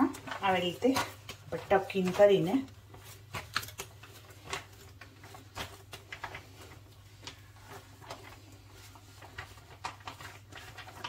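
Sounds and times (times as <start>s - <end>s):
hands shaping dough: 0.0s - 11.0s.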